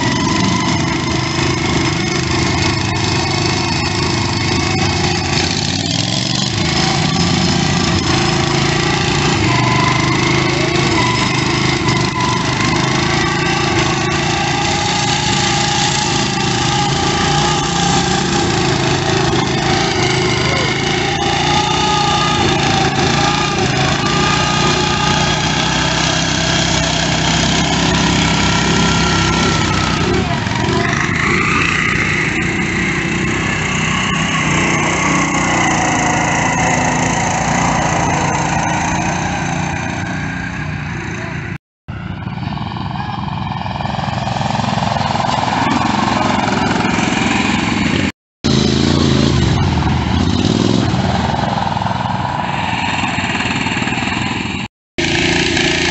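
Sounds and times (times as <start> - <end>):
lawn tractor engines revving: 0.0 - 55.9.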